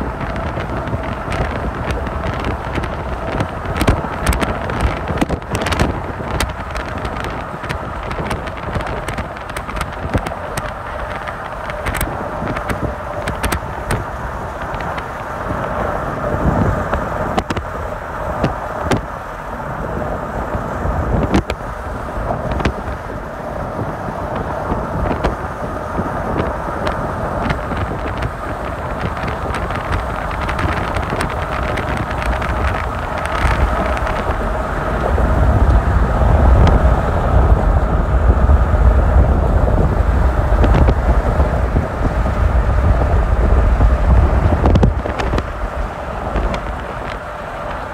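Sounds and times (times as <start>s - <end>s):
deep low rumble: 0.0s - 47.9s
moving vehicle running noise: 0.0s - 47.9s.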